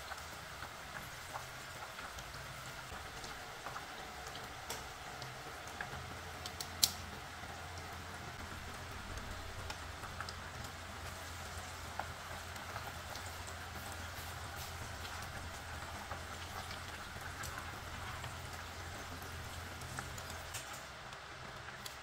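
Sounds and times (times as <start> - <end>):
deep-frying sizzle with pops: 0.0 - 22.0.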